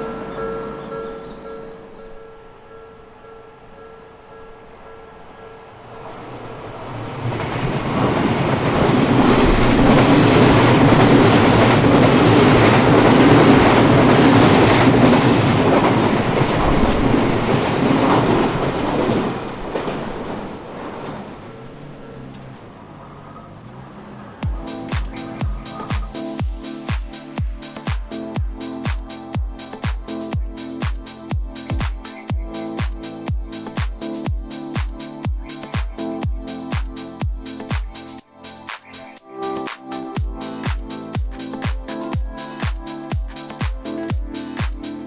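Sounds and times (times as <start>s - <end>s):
railway crossing bell ringing: 0.0s - 5.9s, 7.9s - 19.3s, 24.4s - 38.6s, 39.4s - 45.0s
electric train rumbling: 0.0s - 45.0s.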